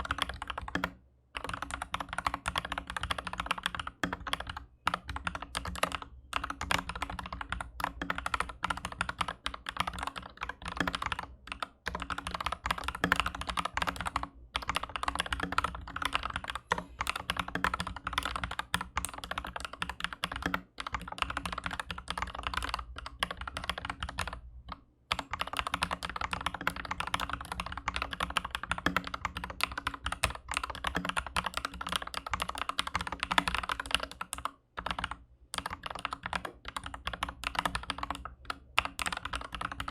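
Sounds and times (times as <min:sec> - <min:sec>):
mechanical keyboard typing clacks: 0:00.0 - 0:39.9.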